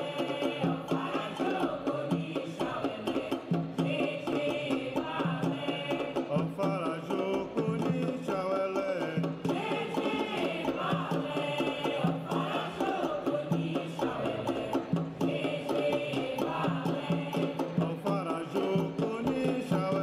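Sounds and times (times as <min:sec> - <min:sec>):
drumming: 0:00.0 - 0:20.0
people singing: 0:00.0 - 0:20.0.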